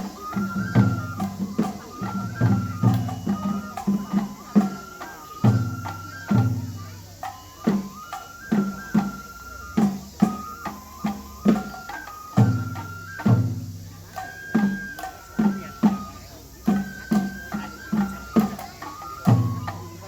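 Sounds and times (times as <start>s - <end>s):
high bamboo flute melody: 0.0s - 20.0s
taiko drum strokes: 0.0s - 20.0s.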